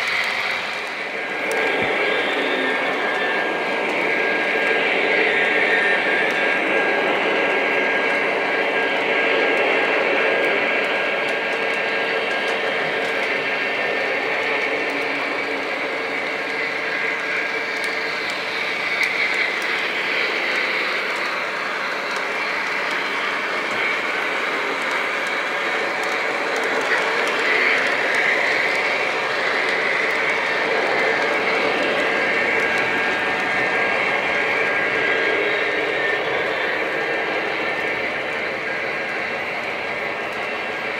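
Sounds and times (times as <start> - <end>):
locomotive motor hum: 0.0 - 40.9
model train wheels rumbling: 0.0 - 40.9.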